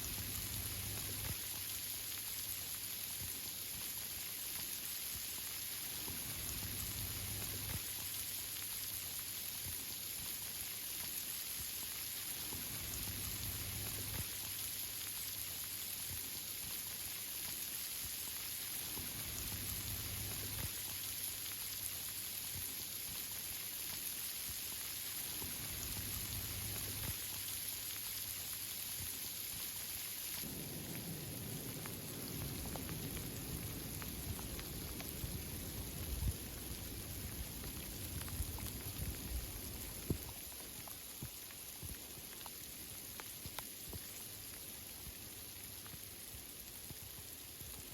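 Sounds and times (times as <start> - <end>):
rain falling through leaves: 0.0 - 47.9.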